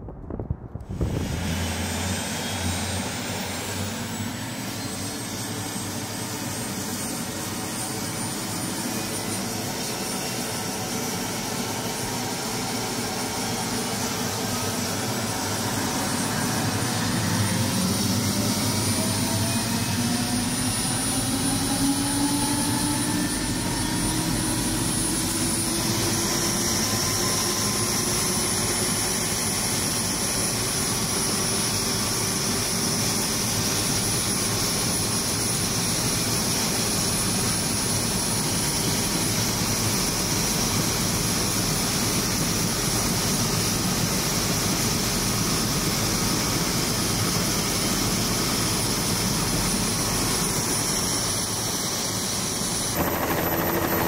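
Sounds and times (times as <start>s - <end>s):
high turbine whine: 0.0s - 54.0s
helicopter engine and rotor: 0.8s - 54.0s.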